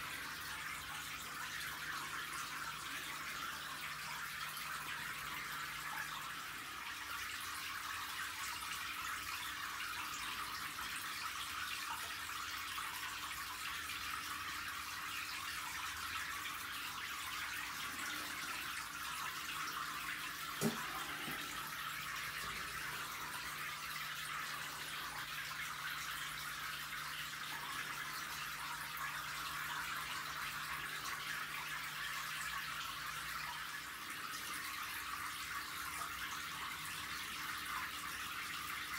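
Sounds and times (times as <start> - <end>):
aquarium water hissing: 0.0 - 38.9.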